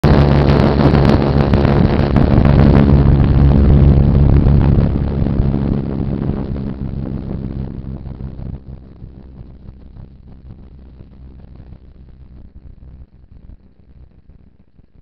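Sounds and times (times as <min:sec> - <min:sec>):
motorcycle engine running: 0:00.0 - 0:13.7
wind noise on microphone: 0:00.0 - 0:15.0.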